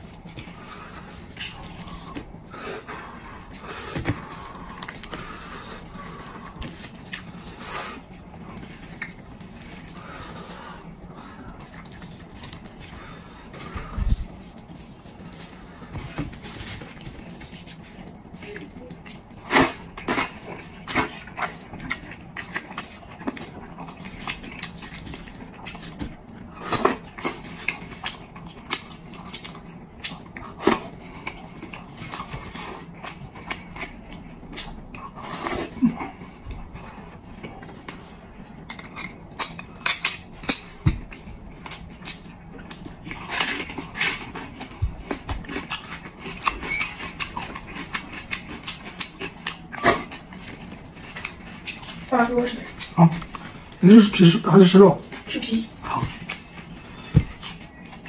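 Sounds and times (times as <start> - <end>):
person chewing and lip-smacking: 0.0 - 58.0.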